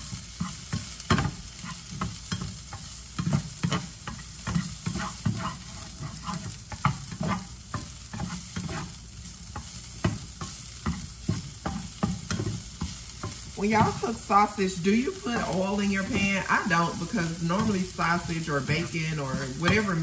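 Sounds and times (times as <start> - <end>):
sausage sizzling in a skillet: 0.0 - 20.0
spatula scraping a pan: 0.0 - 20.0.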